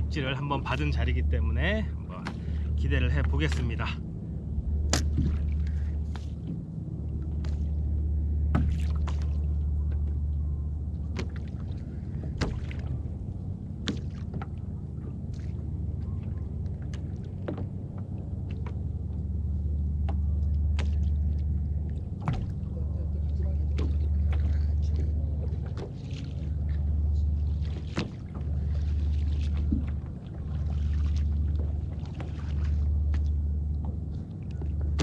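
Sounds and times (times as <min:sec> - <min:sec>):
low rumble: 0:00.0 - 0:35.0
small waves lapping against a hull: 0:00.0 - 0:35.0.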